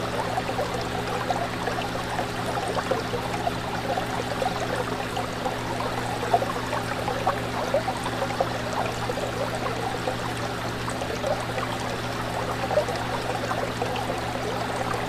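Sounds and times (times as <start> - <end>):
pump humming: 0.0 - 15.0
water bubbling and trickling: 0.0 - 15.0.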